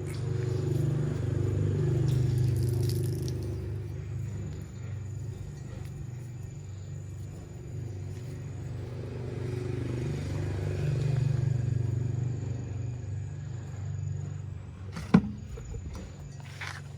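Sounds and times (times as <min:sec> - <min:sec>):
motor running with low drone: 0:00.0 - 0:16.9.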